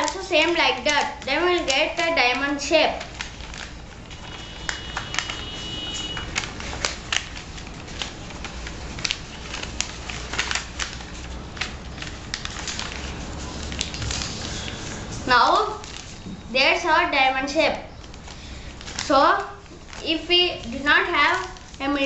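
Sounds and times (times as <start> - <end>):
paper folding and crinkling: 0.0 - 16.8, 17.6 - 22.0.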